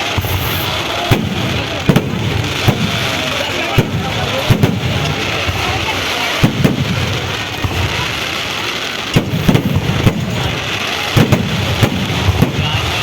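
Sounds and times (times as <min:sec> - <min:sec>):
firecrackers crackling: 0:00.0 - 0:13.0
loud firework bangs: 0:00.0 - 0:13.0.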